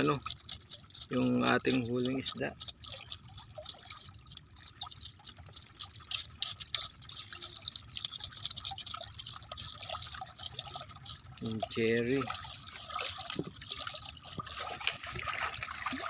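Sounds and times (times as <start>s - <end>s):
knife scraping fish scales: 0.0s - 4.4s, 5.7s - 15.6s
small waves lapping on rocks: 0.0s - 16.0s.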